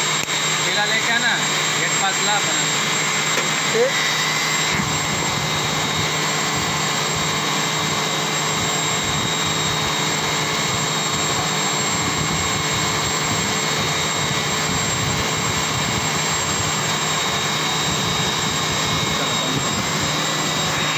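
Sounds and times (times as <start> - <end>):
machinery drone with high whine: 0.0 - 20.9.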